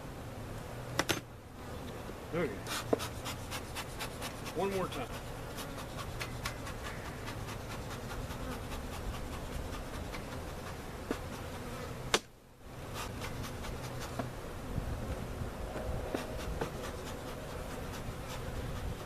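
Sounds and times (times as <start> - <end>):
bees buzzing: 1.4 - 19.0.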